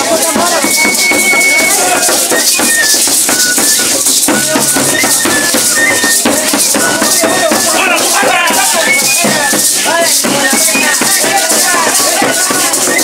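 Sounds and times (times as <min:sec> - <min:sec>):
hand rattles shaken rhythmically: 0:00.0 - 0:13.0
voices calling out: 0:00.0 - 0:13.0.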